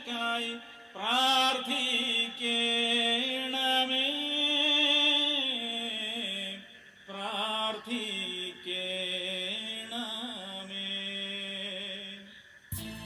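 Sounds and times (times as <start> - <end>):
person chanting: 0.0 - 13.0.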